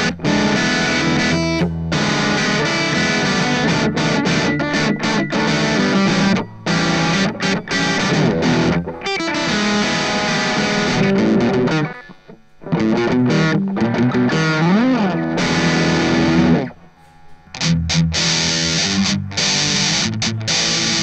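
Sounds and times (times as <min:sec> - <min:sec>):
distorted electric guitar riffs: 0:00.0 - 0:21.0.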